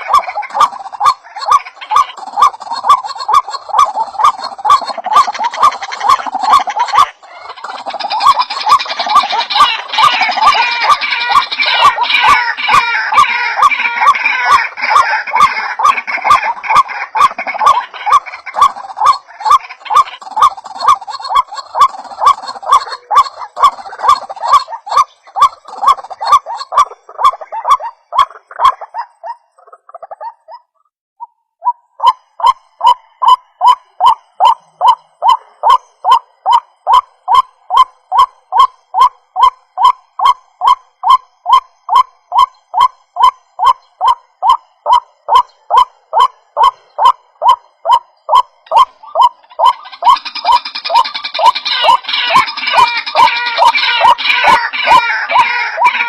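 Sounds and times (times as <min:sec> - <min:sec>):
waterhen croaking calls: 0:00.0 - 0:56.0.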